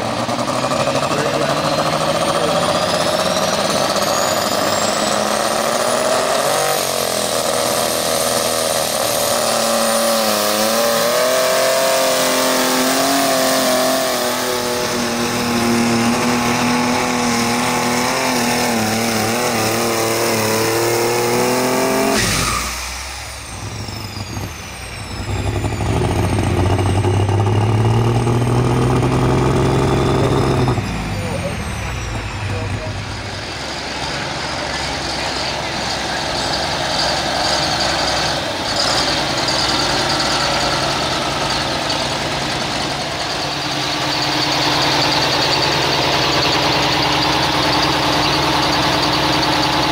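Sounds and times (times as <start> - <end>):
tractor engine at full throttle: 0.0 - 49.9.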